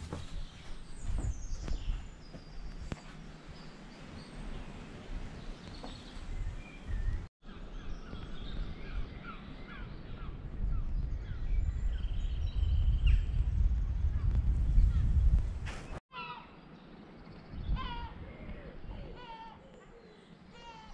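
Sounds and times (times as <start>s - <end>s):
birds chirping: 0.0s - 15.2s, 15.9s - 20.9s.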